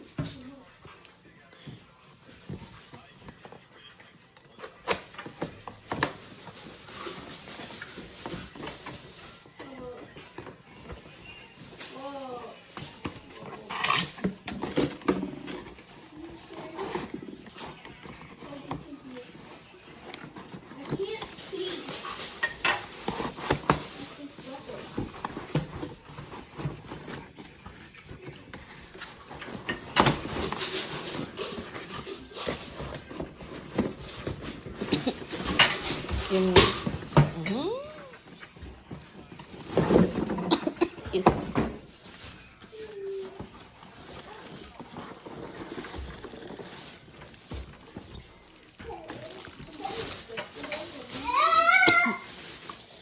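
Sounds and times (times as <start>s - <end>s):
packaging rustling and scraping: 0.0s - 53.0s.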